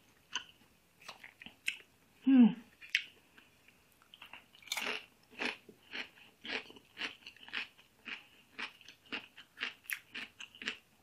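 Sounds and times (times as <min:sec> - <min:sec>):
person chewing: 0:00.2 - 0:01.9, 0:02.7 - 0:10.9.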